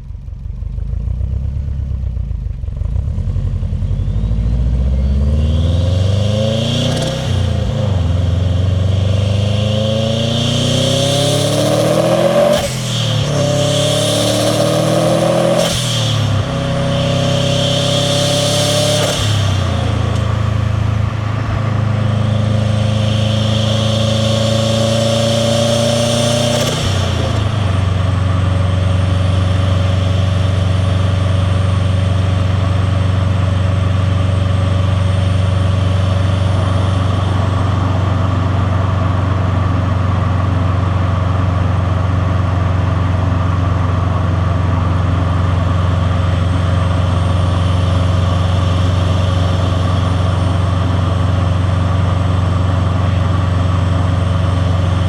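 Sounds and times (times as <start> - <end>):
car engine revving: 0.8 - 55.0.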